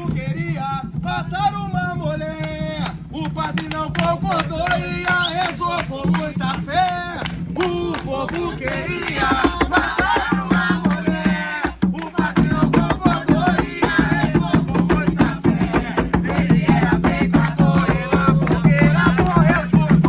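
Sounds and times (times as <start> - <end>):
hand drums fast rhythm: 0.0 - 20.0
voices singing: 2.8 - 20.0.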